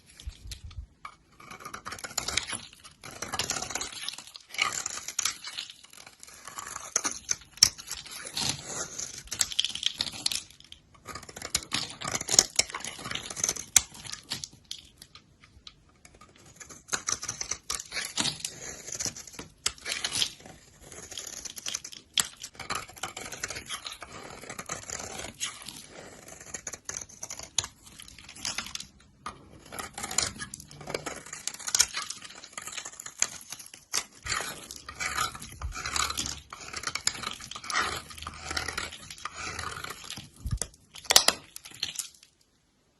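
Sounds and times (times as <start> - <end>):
knife cutting dry soap: 0.0 - 42.2.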